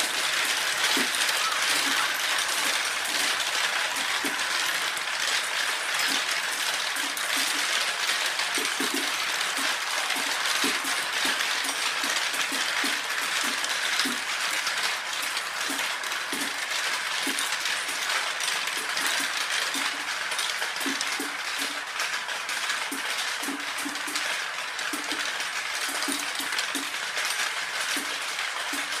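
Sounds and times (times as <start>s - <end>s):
marbles rattling on plastic tracks: 0.0s - 29.0s.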